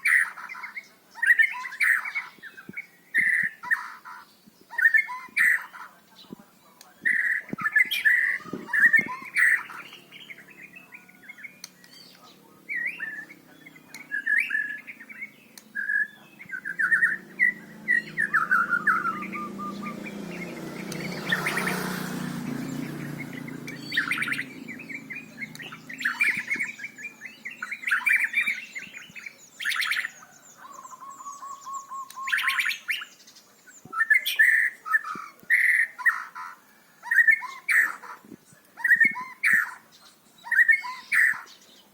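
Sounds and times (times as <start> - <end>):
bird singing whistles and trills: 0.0 - 6.4, 7.0 - 41.9.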